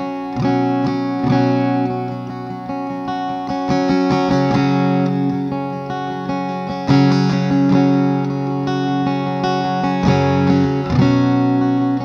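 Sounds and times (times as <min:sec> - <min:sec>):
acoustic guitar picked notes and chords: 0:00.0 - 0:12.0.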